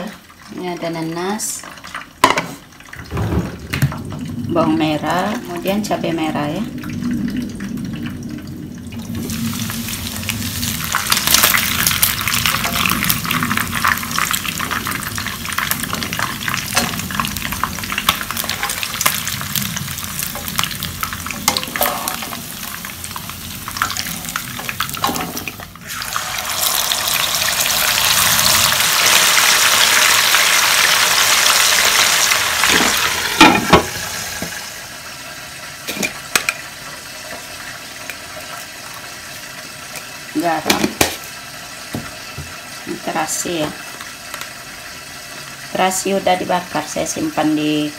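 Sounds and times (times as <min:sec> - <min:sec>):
food sizzling in hot oil: 0:04.6 - 0:47.9.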